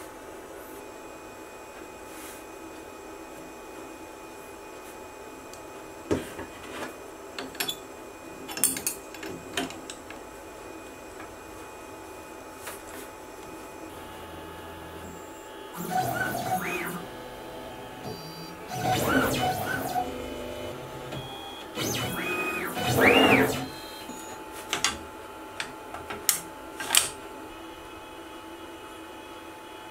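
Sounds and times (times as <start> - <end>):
steady machine hum: 0.0 - 29.9.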